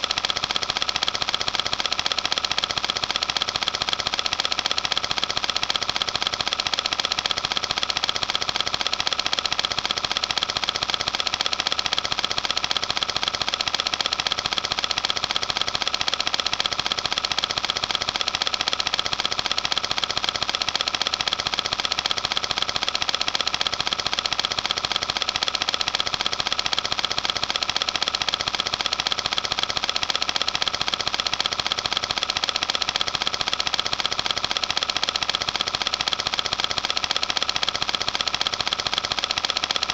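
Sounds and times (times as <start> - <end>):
film projector clattering: 0.0 - 39.9.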